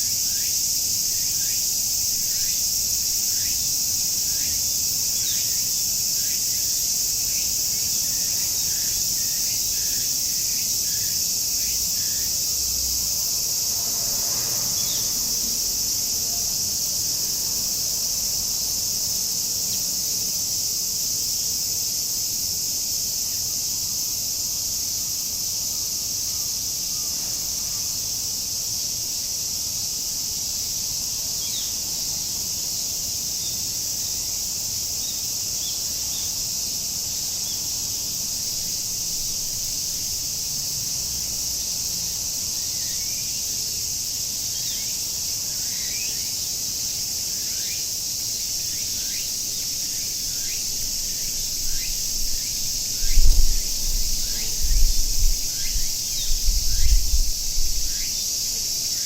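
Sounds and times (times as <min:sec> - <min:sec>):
cicadas shrilling: 0:00.0 - 0:59.0.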